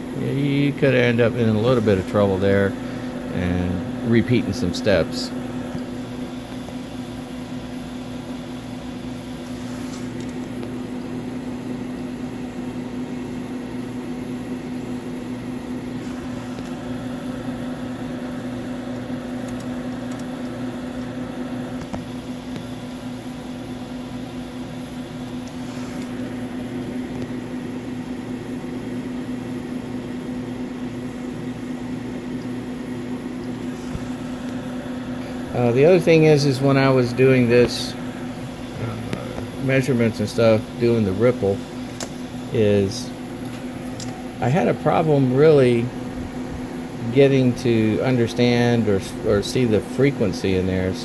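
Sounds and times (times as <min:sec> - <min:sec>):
cooling fan noise: 0:00.0 - 0:51.0.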